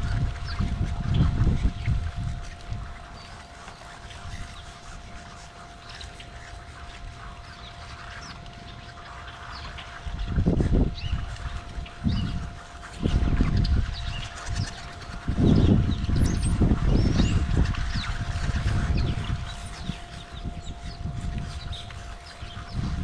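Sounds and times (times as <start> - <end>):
flock of birds chirping: 0.0 - 23.0
wind buffeting microphone: 0.0 - 23.0.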